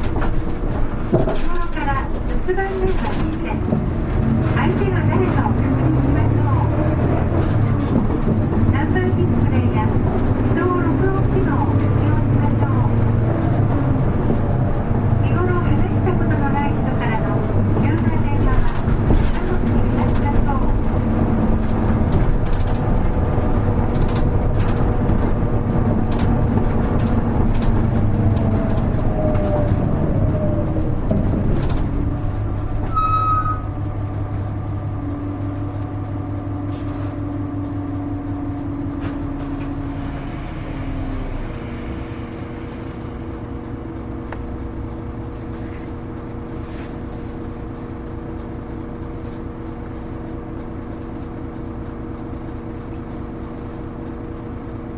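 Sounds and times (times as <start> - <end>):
bus engine running: 0.0 - 54.9.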